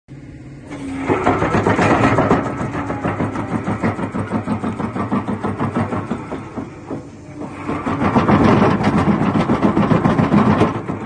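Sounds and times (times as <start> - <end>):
excavator engine and hydraulics: 0.1 - 11.0
crusher bucket crushing concrete: 0.8 - 11.0.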